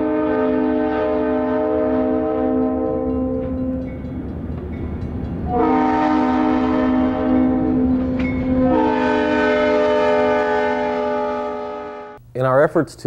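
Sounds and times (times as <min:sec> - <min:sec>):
locomotive air horn blowing: 0:00.0 - 0:04.0, 0:05.5 - 0:12.2
passing train rumble: 0:00.0 - 0:12.0.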